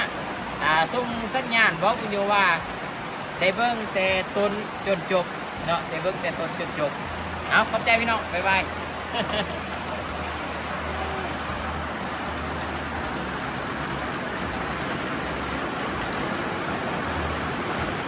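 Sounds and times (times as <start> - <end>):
rain on a metal roof: 0.0 - 18.0.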